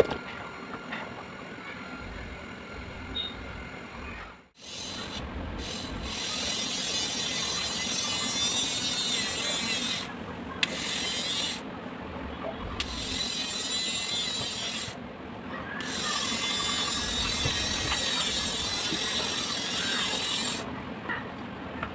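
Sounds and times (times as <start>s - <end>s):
small motor whining and rattling: 0.0s - 11.6s, 12.6s - 15.0s, 15.8s - 20.7s.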